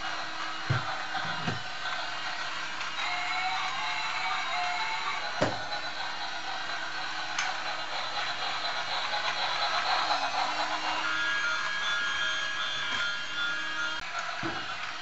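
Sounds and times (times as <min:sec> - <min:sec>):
steady high tones: 0:00.0 - 0:14.9
electronic train sound effects: 0:00.0 - 0:15.0
toy motor whirring: 0:00.0 - 0:15.0.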